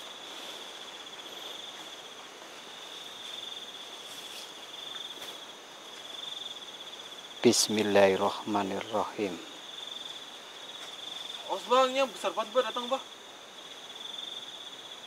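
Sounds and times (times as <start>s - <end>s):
crickets trilling: 0.0s - 15.0s
faint background hiss: 0.0s - 15.0s.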